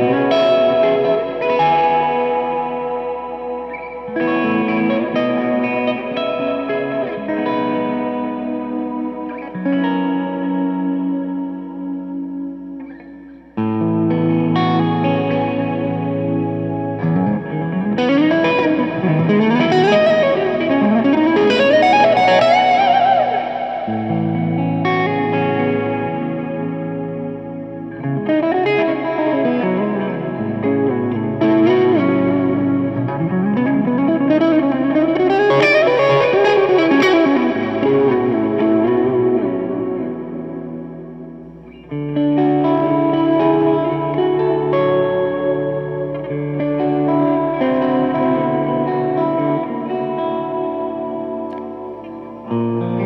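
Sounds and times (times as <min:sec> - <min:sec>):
electric guitar lead: 0:00.0 - 0:53.0.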